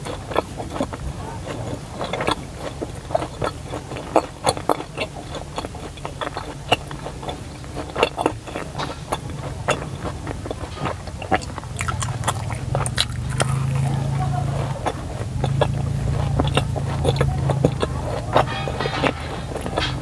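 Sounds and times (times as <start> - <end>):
mouth clicks and smacks chewing: 0.0 - 18.4.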